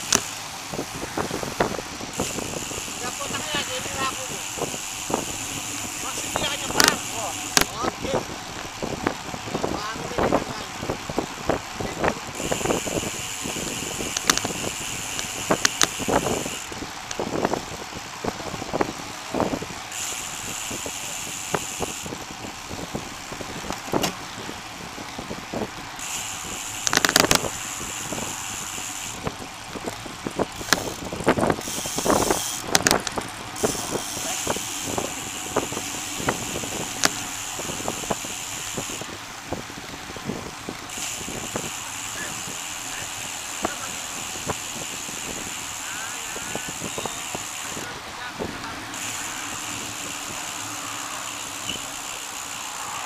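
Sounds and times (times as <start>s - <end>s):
bicycle knocks and rattles: 0.0s - 45.8s
bicycle tyre rumble: 0.0s - 53.0s
wind buffeting: 0.0s - 53.0s.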